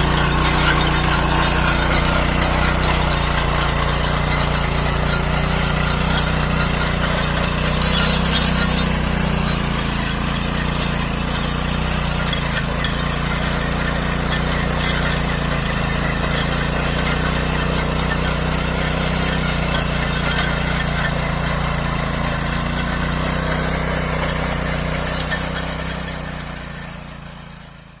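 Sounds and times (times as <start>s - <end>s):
small tiller engine running: 0.0s - 28.0s.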